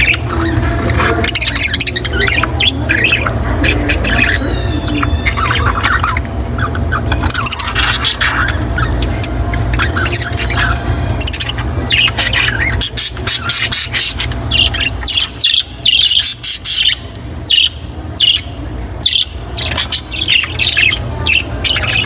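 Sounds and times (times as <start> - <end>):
budgerigars chattering and squawking: 0.0 - 22.0
steady low hum: 0.0 - 22.0.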